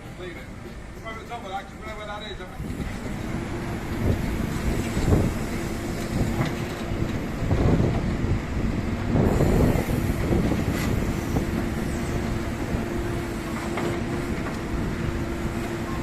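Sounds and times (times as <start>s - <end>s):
heavy engine rumbling: 0.0s - 16.0s.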